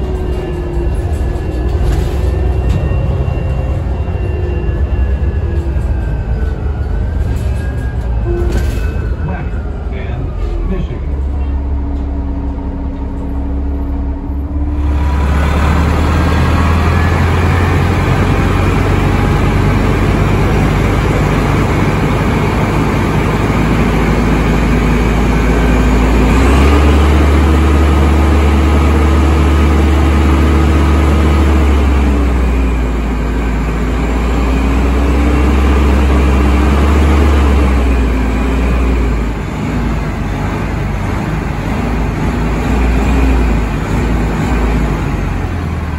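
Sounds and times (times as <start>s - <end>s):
bus engine idling and revving: 0.0s - 45.9s
bus ride noise: 0.0s - 45.9s.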